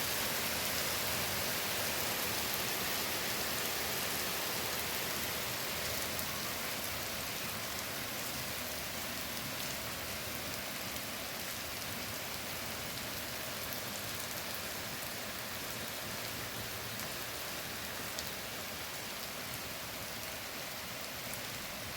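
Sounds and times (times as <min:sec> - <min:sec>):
steady rain hiss: 0:00.0 - 0:21.9.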